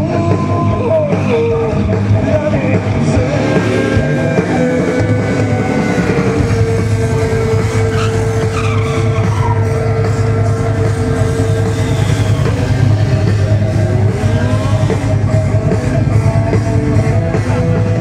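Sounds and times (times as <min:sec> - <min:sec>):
hard rock music: 0:00.0 - 0:18.0.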